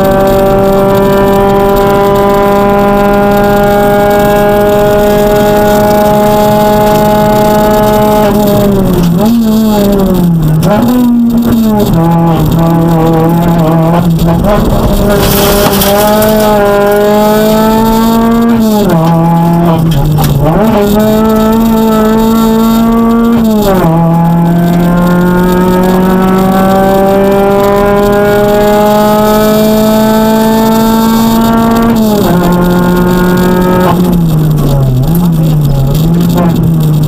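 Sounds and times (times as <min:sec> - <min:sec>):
car engine revving through gears: 0:00.0 - 0:37.0.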